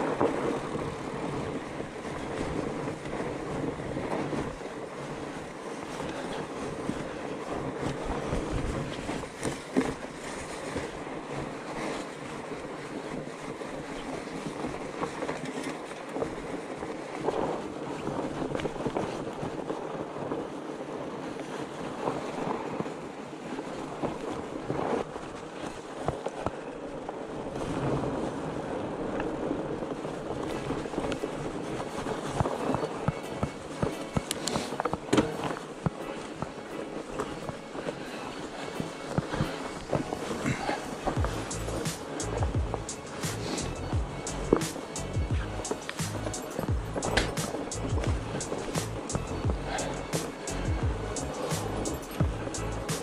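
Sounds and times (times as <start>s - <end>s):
bike rolling and rattling: 0.0s - 53.0s
wind on microphone: 0.0s - 53.0s.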